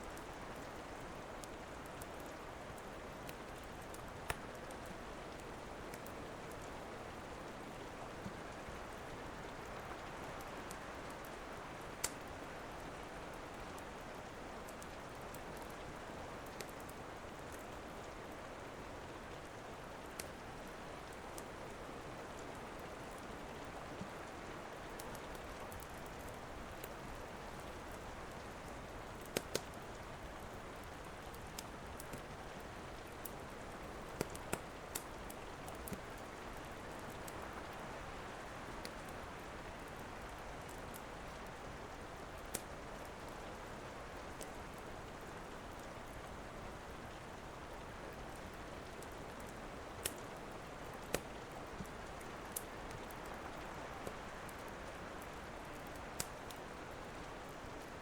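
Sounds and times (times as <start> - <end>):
steady rain: 0.0 - 58.0
wood fire crackling: 0.0 - 58.0.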